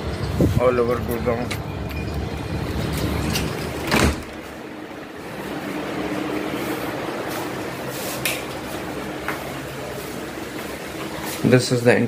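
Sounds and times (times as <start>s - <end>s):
low outdoor rumble: 0.0s - 11.9s
indoor hum with faint tone: 0.0s - 12.0s.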